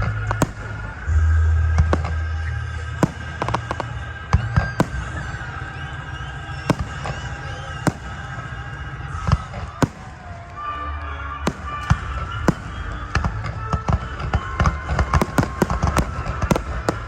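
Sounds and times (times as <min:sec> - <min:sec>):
fireworks cracking and popping: 0:00.0 - 0:01.1, 0:01.8 - 0:17.0
fireworks booming: 0:00.0 - 0:17.0
music: 0:00.0 - 0:17.0.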